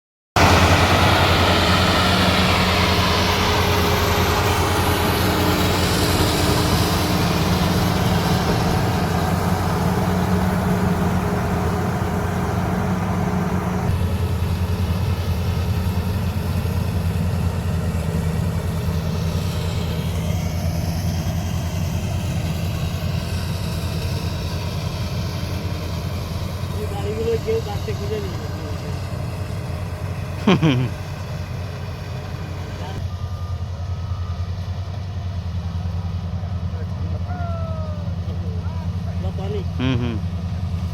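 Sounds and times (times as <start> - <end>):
rushing machine noise: 0.4 - 34.4
combine harvester engine drone: 0.4 - 40.9.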